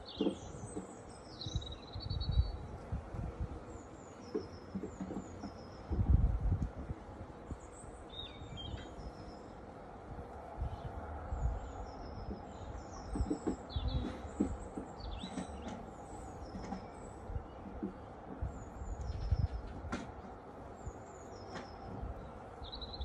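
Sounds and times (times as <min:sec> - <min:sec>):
small birds chirping: 0:00.0 - 0:06.6, 0:07.5 - 0:09.7, 0:10.6 - 0:23.0.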